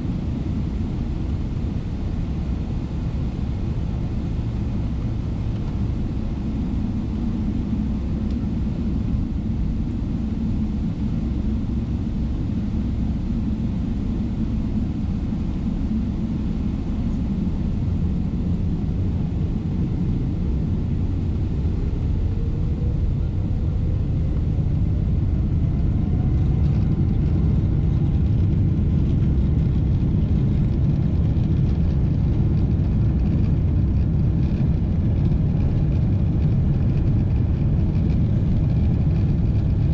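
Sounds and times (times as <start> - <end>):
airplane cabin rumble: 0.0 - 39.9
jet engines whining: 0.0 - 39.9.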